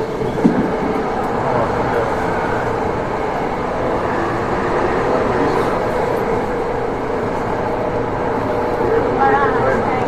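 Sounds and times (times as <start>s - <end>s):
electric train hum: 0.0s - 10.0s
train wheels rumbling on rail: 0.0s - 10.0s.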